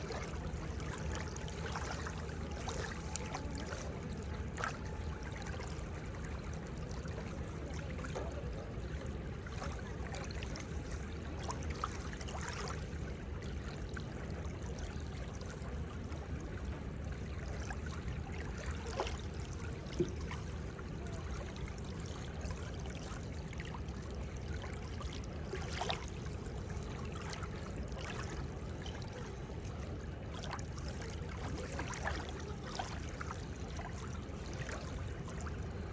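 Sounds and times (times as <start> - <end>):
seawater washing at shore: 0.0 - 35.9.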